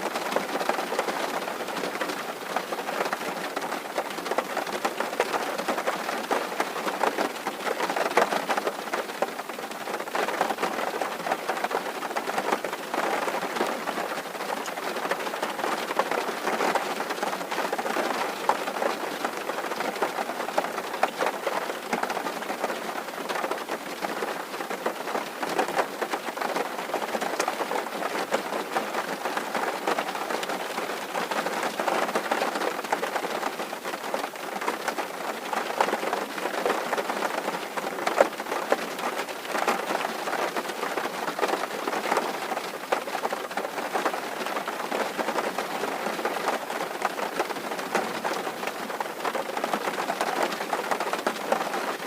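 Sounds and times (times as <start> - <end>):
rain on a tin roof: 0.0 - 52.0.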